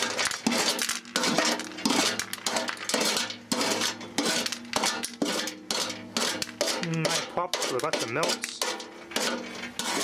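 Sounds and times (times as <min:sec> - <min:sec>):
utensil scraping metal: 0:00.0 - 0:10.0.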